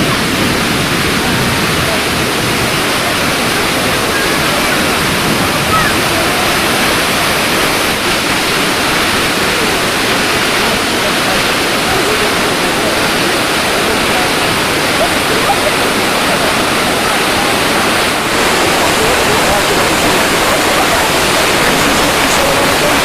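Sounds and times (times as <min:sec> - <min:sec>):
large waterfall rushing: 0:00.0 - 0:23.0.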